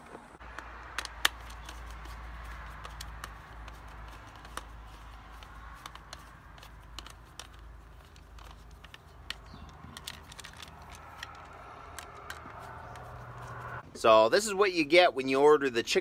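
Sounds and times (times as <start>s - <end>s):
screwdriver clicks and scrapes: 0.5s - 13.7s.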